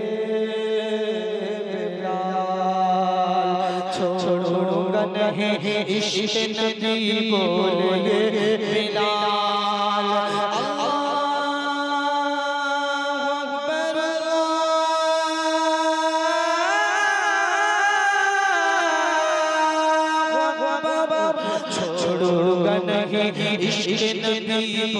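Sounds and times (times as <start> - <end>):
person singing without instruments: 0.0 - 24.9.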